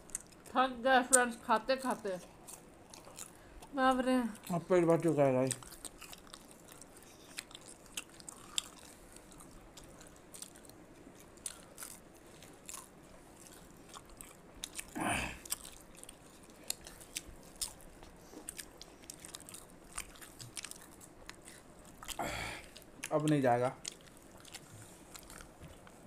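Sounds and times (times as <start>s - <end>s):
chewing and biting food: 0.0s - 26.0s.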